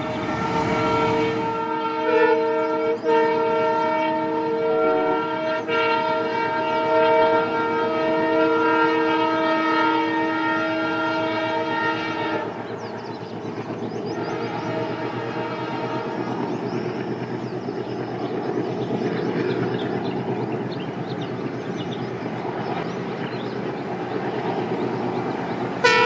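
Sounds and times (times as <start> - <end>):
locomotive horn blast: 0.0 - 12.9, 13.5 - 17.3, 21.3 - 26.0
train running rumble: 0.0 - 26.0.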